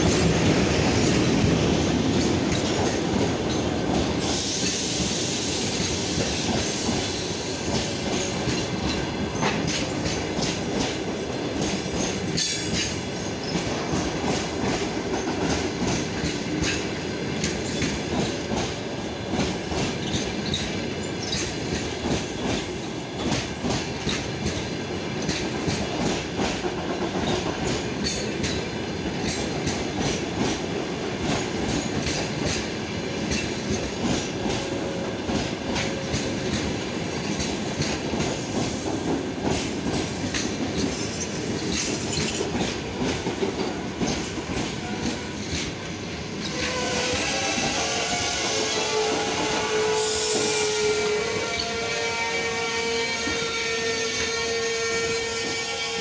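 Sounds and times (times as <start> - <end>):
train wheels clicking over rail joints: 0.0 - 48.3.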